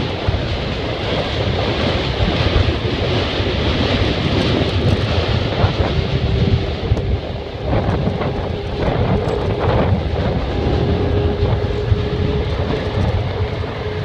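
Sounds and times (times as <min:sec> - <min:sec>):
moving vehicle rumble: 0:00.0 - 0:14.0
wind hissing on microphone: 0:00.0 - 0:14.0.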